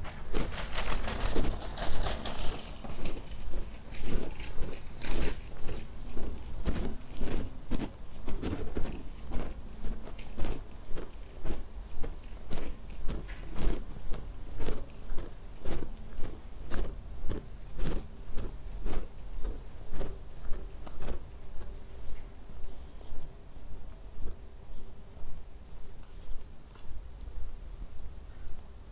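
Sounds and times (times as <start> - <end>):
footsteps walking: 0.0 - 27.5.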